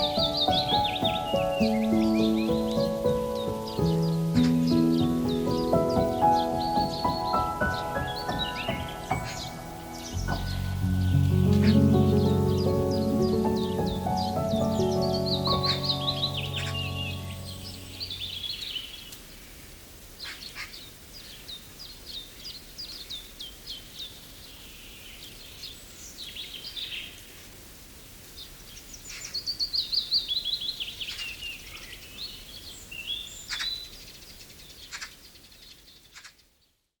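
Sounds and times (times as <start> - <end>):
faint steady background noise: 0.0 - 37.0
small songbirds chirping: 0.0 - 37.0.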